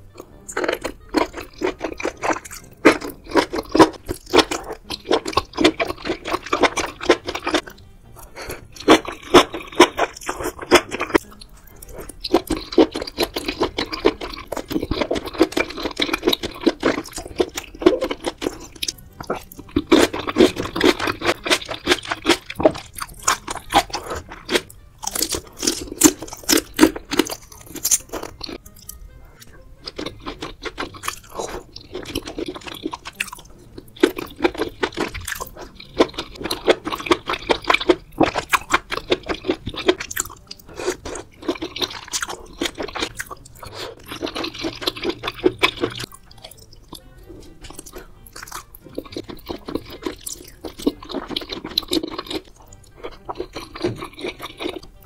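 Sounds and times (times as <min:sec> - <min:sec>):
slurping: 0:00.0 - 0:55.0
wet chewing and crunching: 0:00.0 - 0:55.0.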